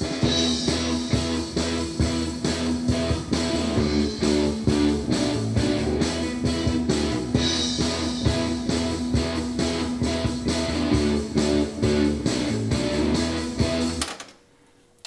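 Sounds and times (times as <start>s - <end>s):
rock music: 0.0s - 14.1s.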